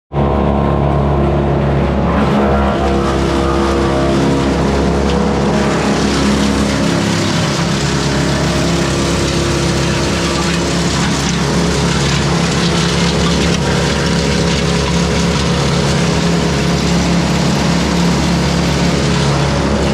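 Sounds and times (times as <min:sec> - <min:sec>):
wood chipper engine drone: 0:00.1 - 0:19.9
coarse rushing noise: 0:00.2 - 0:19.9.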